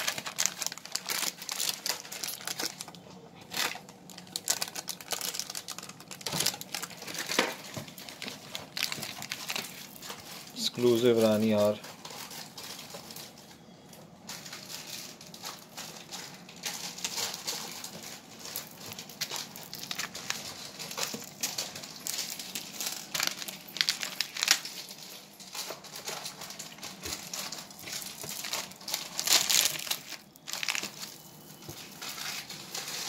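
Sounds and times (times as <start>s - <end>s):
plastic packets crinkling: 0.0s - 33.0s.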